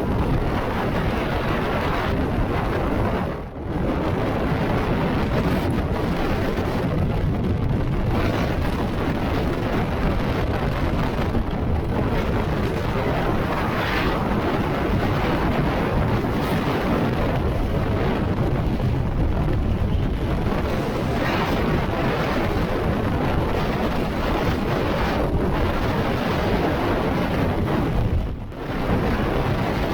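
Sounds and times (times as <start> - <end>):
strong wind buffeting microphone: 0.0 - 29.9.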